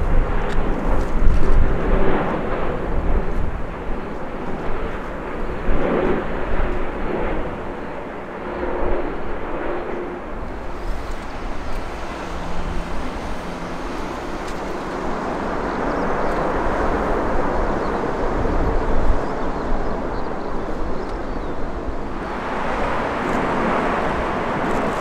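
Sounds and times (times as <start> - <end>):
jet airliner engines: 0.0 - 25.0.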